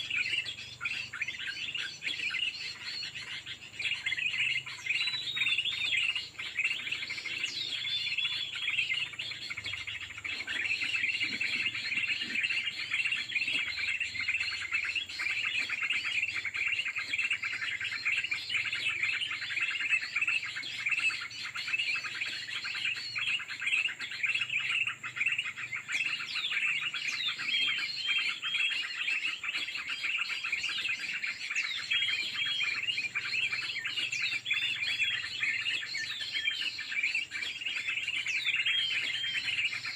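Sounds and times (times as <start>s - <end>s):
small birds twittering chorus: 0.0s - 39.9s.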